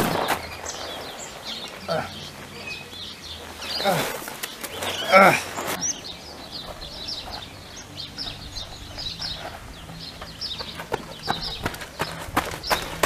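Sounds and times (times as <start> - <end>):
footsteps on gravel: 0.0 - 13.0
small birds chirping: 0.0 - 13.0.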